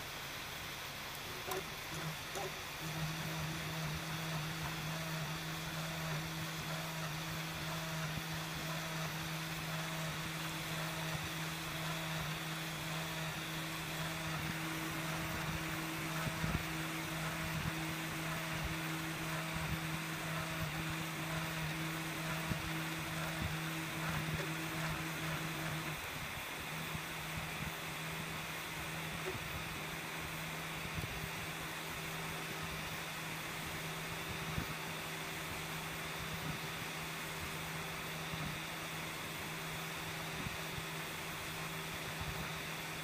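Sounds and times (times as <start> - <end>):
printer motor hum and fan whir: 0.0 - 43.0.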